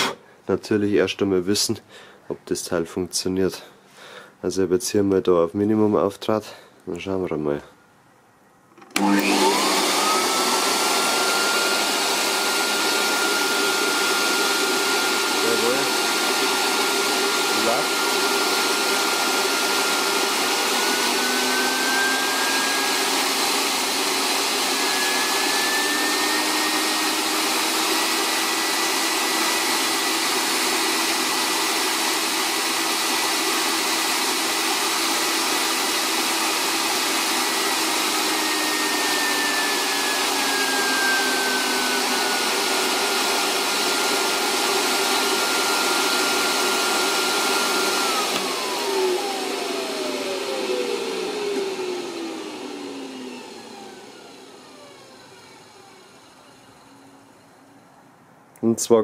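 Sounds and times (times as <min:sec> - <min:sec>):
vacuum cleaner motor whining: 0:00.0 - 0:00.2, 0:08.8 - 0:57.9.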